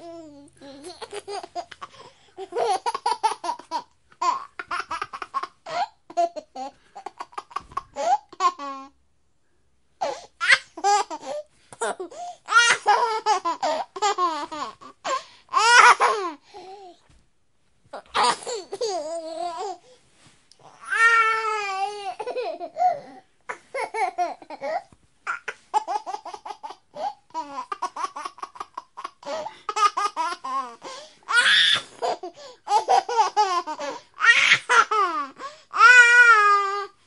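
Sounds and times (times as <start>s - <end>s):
baby laughing: 0.0s - 8.9s, 10.0s - 16.4s, 18.0s - 19.8s, 20.6s - 36.8s.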